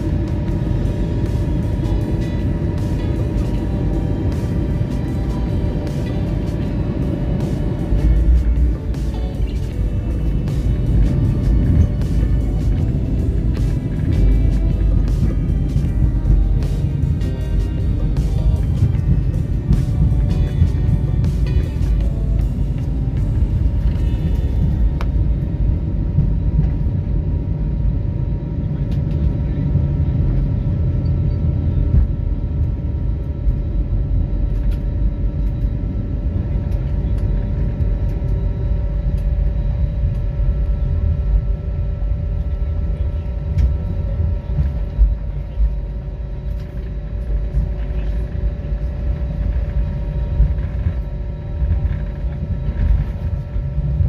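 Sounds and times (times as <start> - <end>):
faint steady whine: 0.0 - 54.0
jet engines idling rumble: 0.0 - 54.0.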